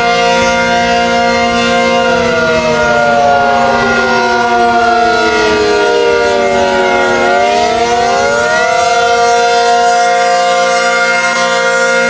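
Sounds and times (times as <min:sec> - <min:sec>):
warning sirens wailing: 0:00.0 - 0:12.0.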